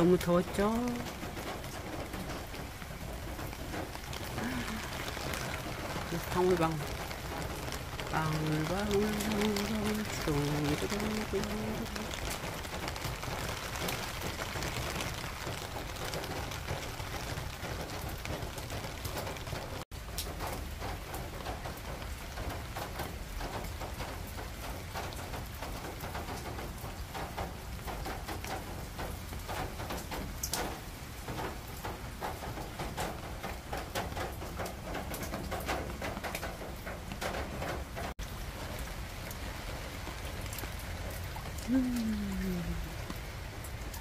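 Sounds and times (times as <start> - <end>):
raindrops striking close by: 0.0 - 44.0
steady rain on plants: 0.0 - 44.0.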